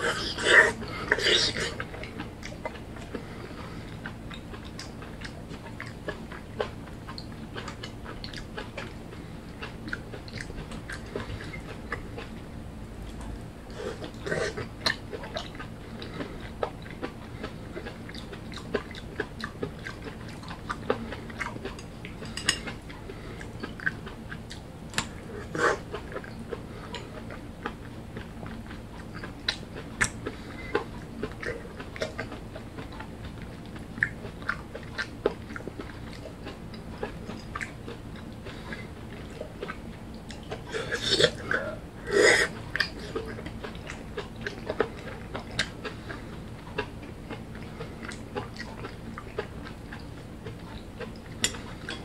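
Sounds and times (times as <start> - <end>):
low steady hum: 0.0 - 52.0
person chewing: 0.0 - 52.0.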